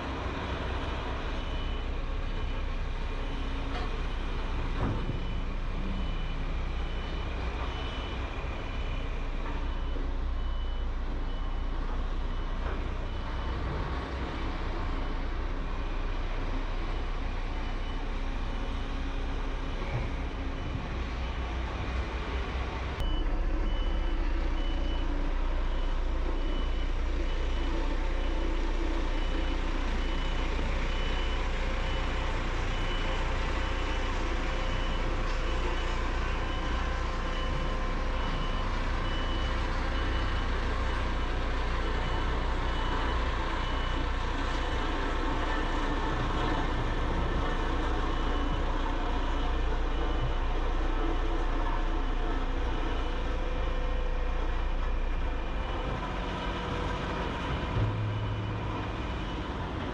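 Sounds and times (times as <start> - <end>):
heavy machinery engine running: 0.0 - 59.9
reversing alarm beeping: 0.1 - 59.9.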